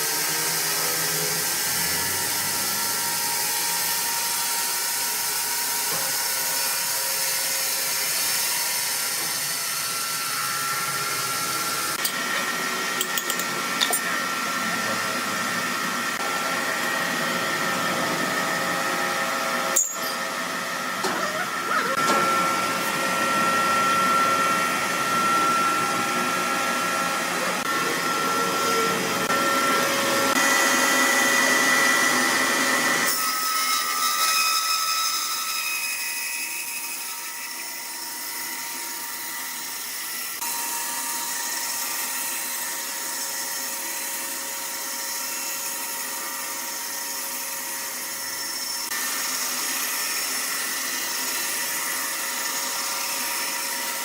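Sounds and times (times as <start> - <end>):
woodworking machine whining: 0.0 - 54.0.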